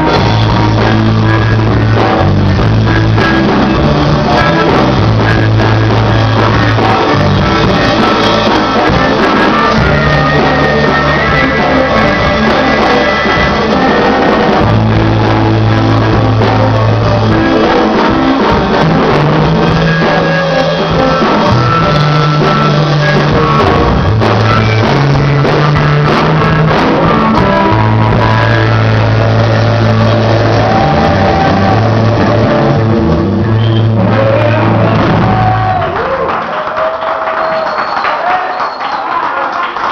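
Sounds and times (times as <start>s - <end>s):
bass line: 0.0s - 37.8s
rock band playing live: 0.0s - 39.9s.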